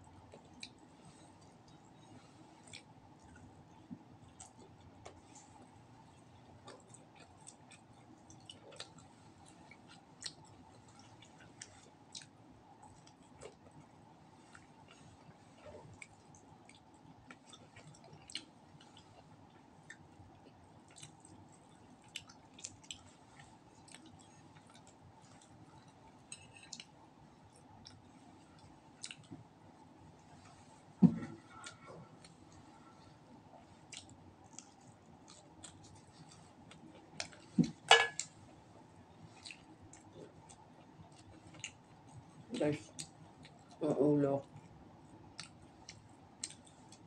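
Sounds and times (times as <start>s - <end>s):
low room hum: 0.0s - 47.0s
chewing and mouth smacks: 0.3s - 29.5s, 31.5s - 38.4s, 39.3s - 43.8s, 44.4s - 47.0s.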